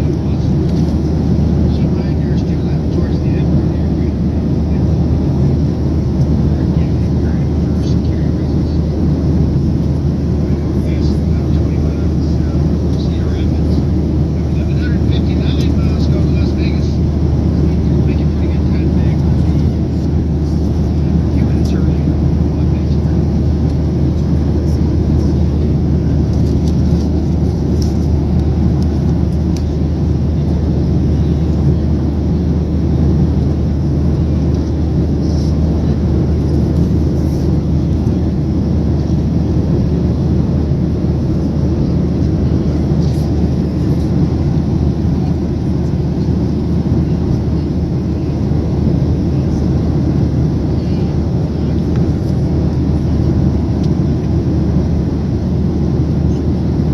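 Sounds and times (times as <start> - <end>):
airliner cabin engine rumble: 0.0 - 56.9.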